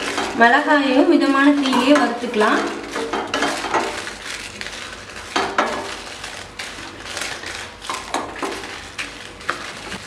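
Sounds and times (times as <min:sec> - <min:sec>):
dry chillies rattling: 0:00.0 - 0:10.0.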